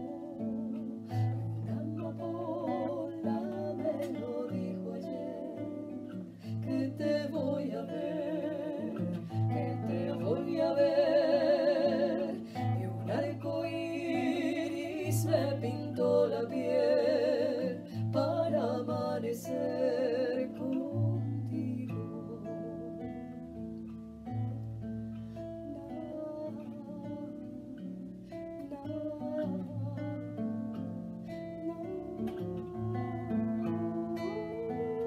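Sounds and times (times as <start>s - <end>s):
woman singing with vibrato: 0.0s - 23.3s, 25.6s - 28.0s, 28.6s - 35.0s
nylon-string guitar picking: 0.0s - 35.0s.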